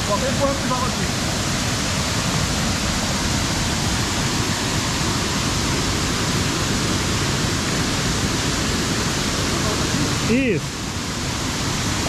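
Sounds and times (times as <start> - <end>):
river and waterfall roar: 0.0 - 12.0.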